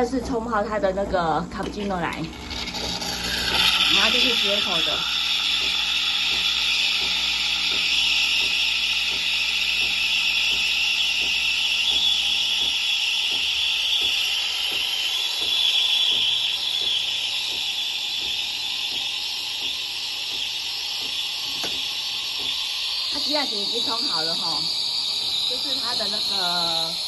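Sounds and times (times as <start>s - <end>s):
pump humming and ticking: 0.0s - 27.0s
steam hiss: 2.8s - 27.0s.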